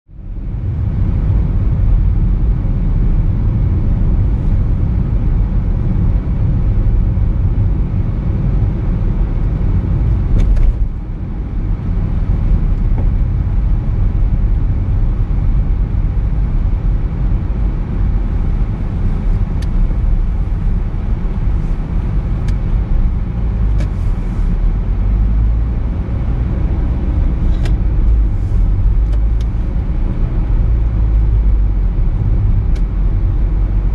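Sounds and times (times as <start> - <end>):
car engine and tyre road noise: 0.0 - 33.9.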